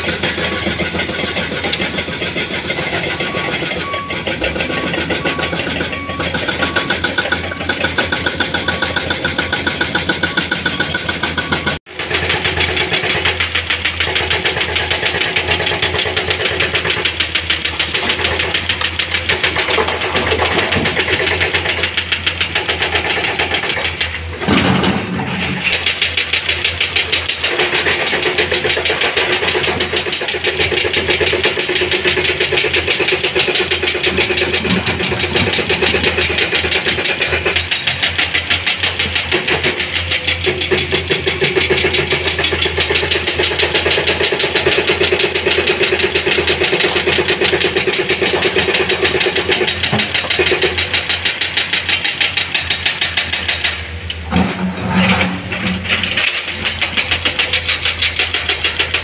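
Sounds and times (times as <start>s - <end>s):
diesel engines throbbing: 0.0s - 59.0s.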